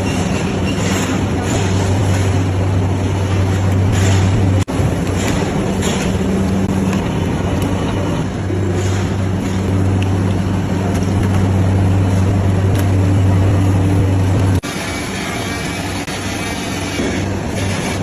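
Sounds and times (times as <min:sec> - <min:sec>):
machine motor humming: 0:00.0 - 0:18.0.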